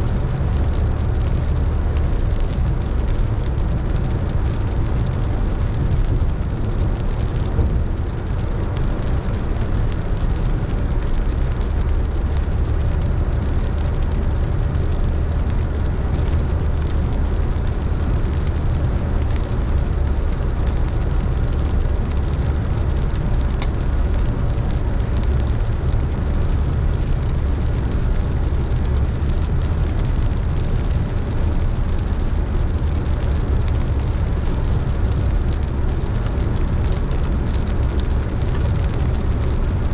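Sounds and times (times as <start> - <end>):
car road and engine rumble: 0.0 - 39.9
rain and wet tyres hiss: 0.0 - 39.9
raindrops ticking on car: 0.0 - 39.9.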